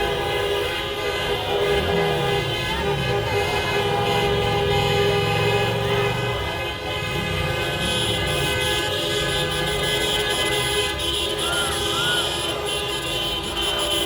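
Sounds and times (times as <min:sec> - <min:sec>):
crowd and traffic din: 0:00.0 - 0:14.0
vehicle horns honking: 0:00.0 - 0:14.0.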